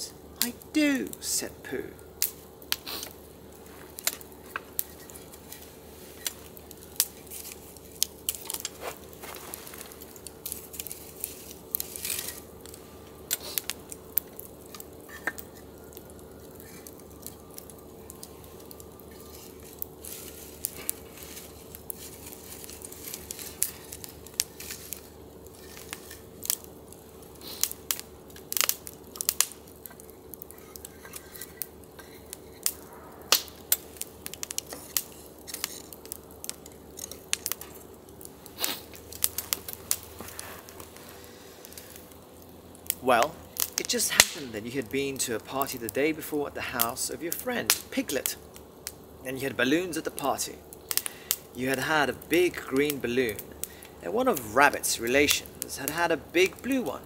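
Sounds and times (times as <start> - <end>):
firewood being handled: 0.0 - 57.0
wood fire crackling: 0.0 - 57.0.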